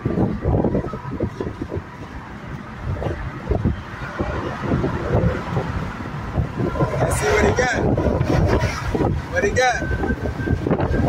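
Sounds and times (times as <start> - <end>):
car engines and road noise: 0.0 - 11.0
wind buffeting microphone: 0.0 - 11.0.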